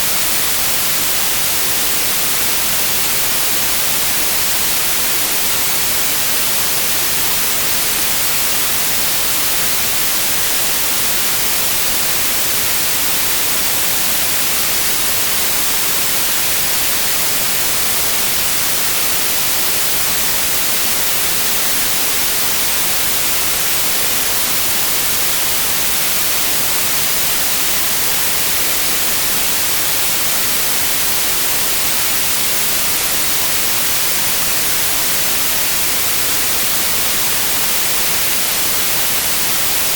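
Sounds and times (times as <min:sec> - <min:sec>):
electronic white noise hiss: 0:00.0 - 0:39.9.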